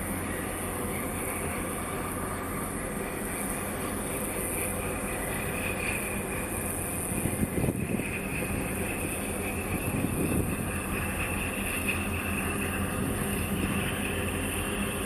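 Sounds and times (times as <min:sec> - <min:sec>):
ship engine drone: 0:00.0 - 0:15.0.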